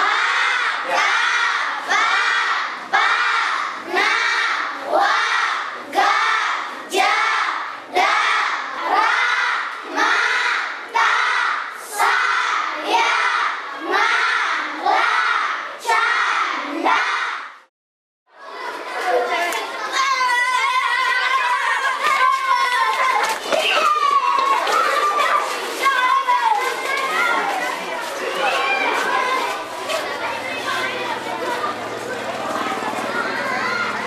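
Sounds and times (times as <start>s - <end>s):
children chanting in unison: 0.0s - 17.6s, 18.4s - 34.0s.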